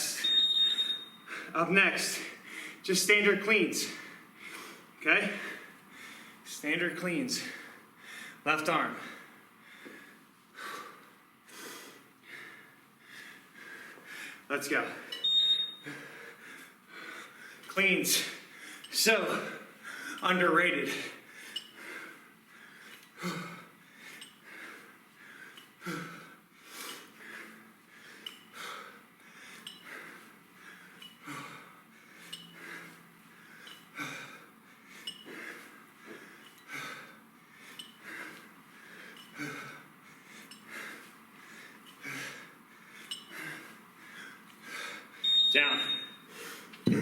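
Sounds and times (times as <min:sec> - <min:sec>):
man breathing hard: 0:01.2 - 0:02.9, 0:03.8 - 0:06.5, 0:07.4 - 0:15.2, 0:15.8 - 0:20.2, 0:20.8 - 0:45.3, 0:46.2 - 0:47.0.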